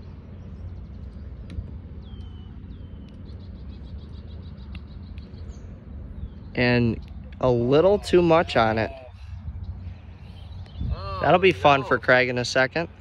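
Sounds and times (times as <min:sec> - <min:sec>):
small birds chirping: 0:00.0 - 0:13.0
wind rumble on microphone: 0:00.0 - 0:13.0.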